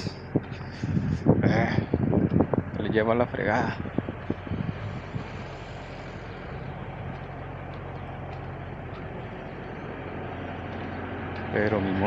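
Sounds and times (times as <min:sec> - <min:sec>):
diesel truck engines idling: 0:00.0 - 0:12.0.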